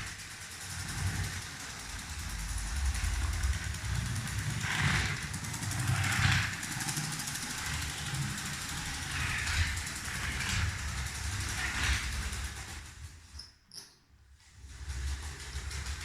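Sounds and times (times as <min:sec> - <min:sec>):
toy train rattle: 0:00.0 - 0:14.0, 0:14.7 - 0:16.0
toy train motor rumbling: 0:00.0 - 0:16.0.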